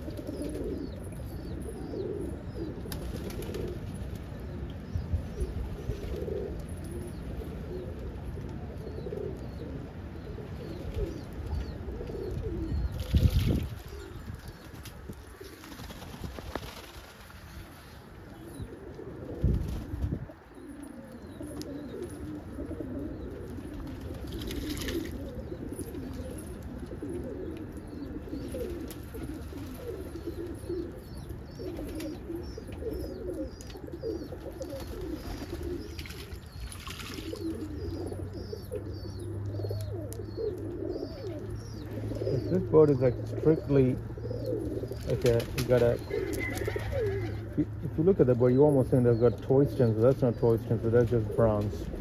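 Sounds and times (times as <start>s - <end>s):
pigeons cooing: 0.0s - 52.0s.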